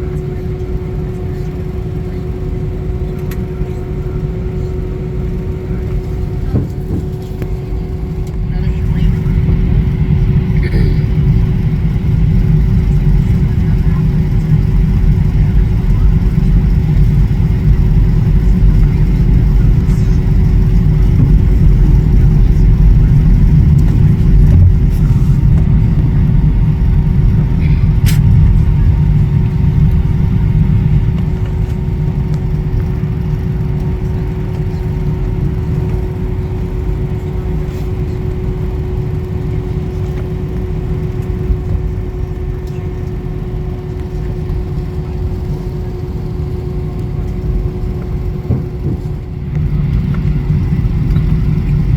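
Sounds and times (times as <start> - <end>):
airliner jet engines rumbling: 0.0 - 51.9.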